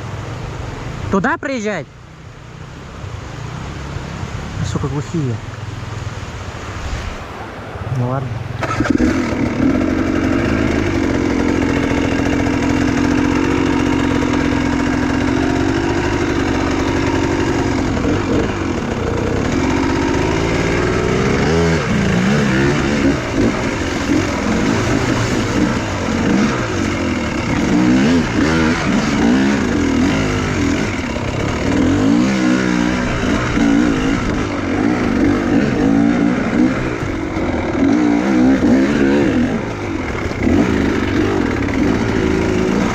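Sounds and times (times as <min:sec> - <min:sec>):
motorcycle engine revving: 0:08.2 - 0:42.9.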